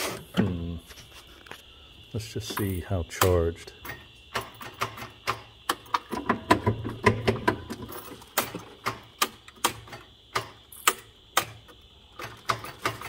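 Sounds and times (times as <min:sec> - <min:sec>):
sharp electrical clicks: 0:02.5 - 0:13.0.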